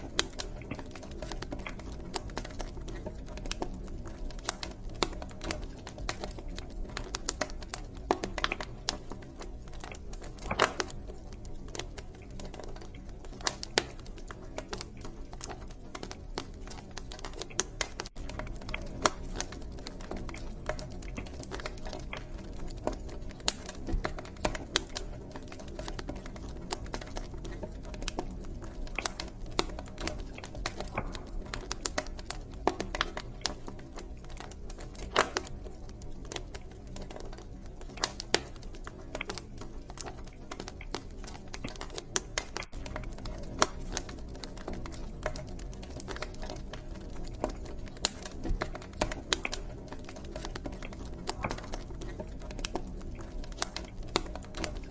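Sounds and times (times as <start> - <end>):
low rumble of flames: 0.0 - 54.9
wood fire crackling: 0.0 - 54.9.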